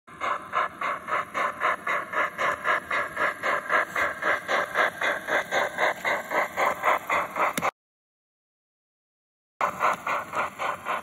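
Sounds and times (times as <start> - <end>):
steam locomotive chuffing: 0.1 - 7.7, 9.6 - 11.0.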